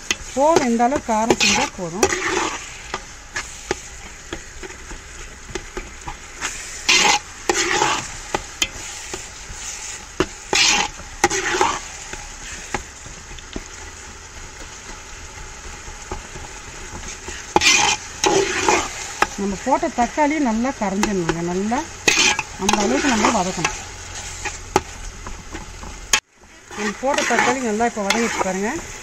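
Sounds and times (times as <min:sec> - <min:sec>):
metal spatula scraping a pot: 0:00.0 - 0:12.9, 0:15.6 - 0:29.0
masala sizzling: 0:00.0 - 0:29.0.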